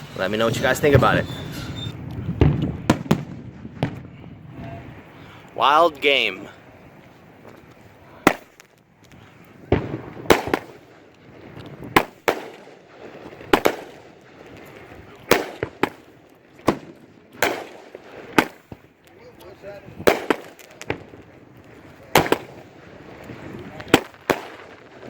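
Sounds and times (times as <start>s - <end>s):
firework bangs: 0.0s - 25.0s.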